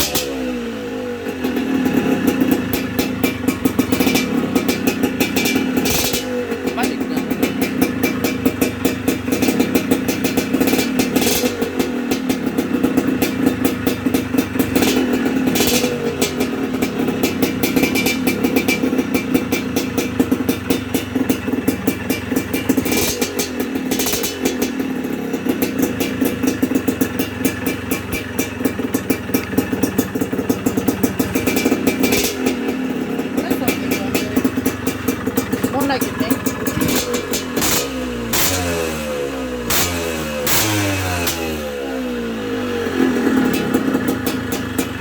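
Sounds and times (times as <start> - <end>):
two-stroke motorcycle engine: 0.0 - 45.0.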